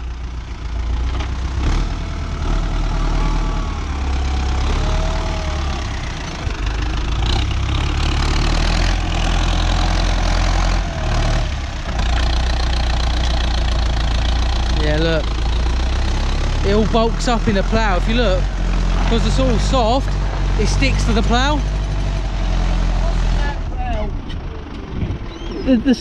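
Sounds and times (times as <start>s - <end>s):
tractor engine under load: 0.0s - 26.0s.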